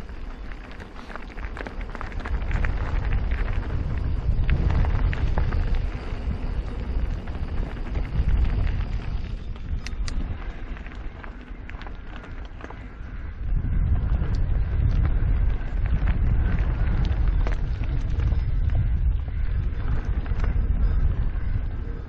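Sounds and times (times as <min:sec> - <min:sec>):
mountain bike on stony trail: 0:00.0 - 0:22.0
wind buffeting microphone: 0:00.0 - 0:22.0.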